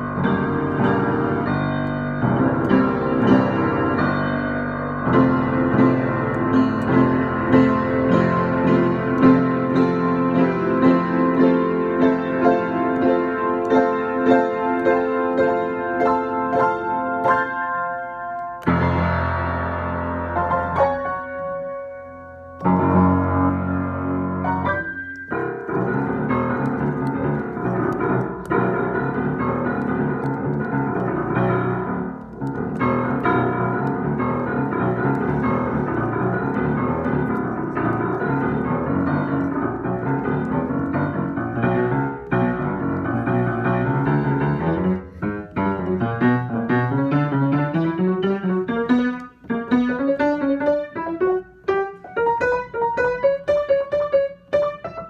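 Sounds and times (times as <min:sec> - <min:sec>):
spooky upright piano improvisation: 0:00.0 - 0:55.0.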